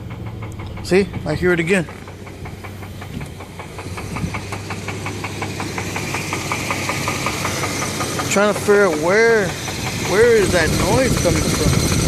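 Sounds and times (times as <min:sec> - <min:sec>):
car engine idling: 0:00.0 - 0:12.0
rapid engine knock: 0:00.0 - 0:12.0.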